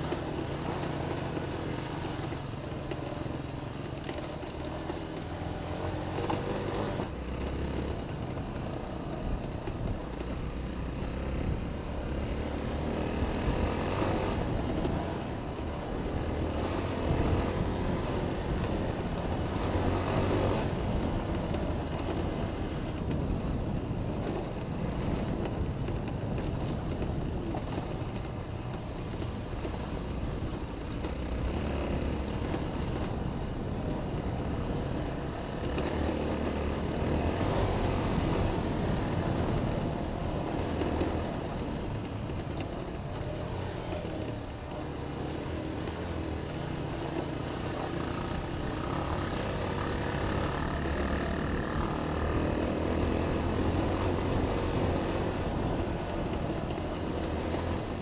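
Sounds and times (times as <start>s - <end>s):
motorcycle engine revving: 0.0s - 23.4s, 27.6s - 58.0s.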